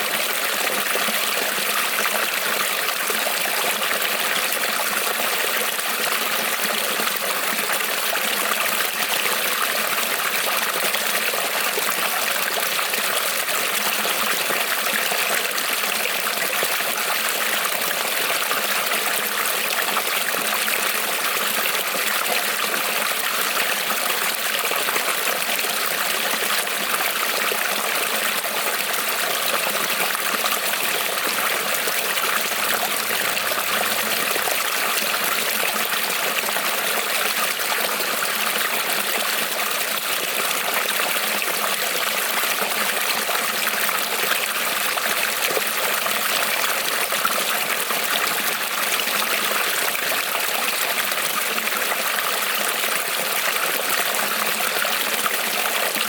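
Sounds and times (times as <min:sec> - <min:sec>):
creek trickling over stones: 0:00.0 - 0:56.0.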